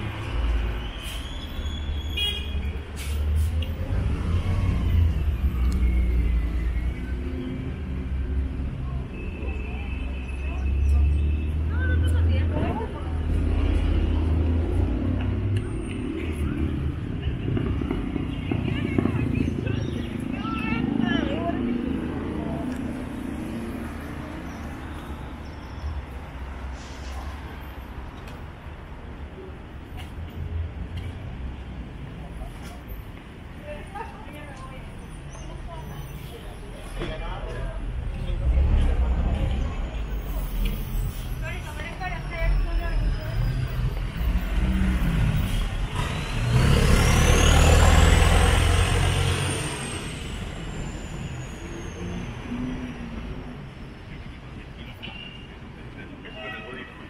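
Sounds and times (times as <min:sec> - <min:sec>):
low traffic rumble: 0:00.0 - 0:57.0.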